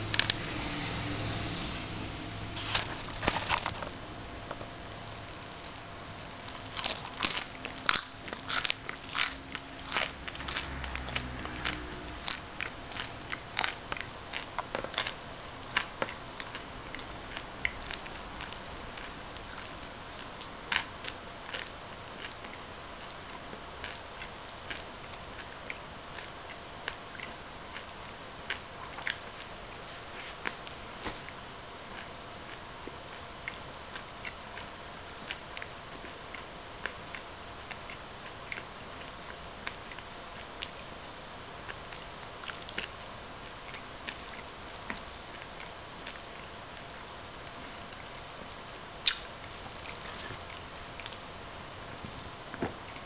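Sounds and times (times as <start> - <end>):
person chewing crunchily: 2.6 - 40.9, 41.6 - 51.4.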